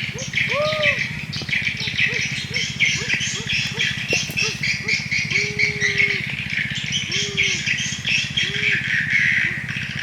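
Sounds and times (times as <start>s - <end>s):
birds chirping: 0.0s - 10.0s
low hooting bird call: 0.0s - 10.0s
pulsing low drone: 0.0s - 10.0s.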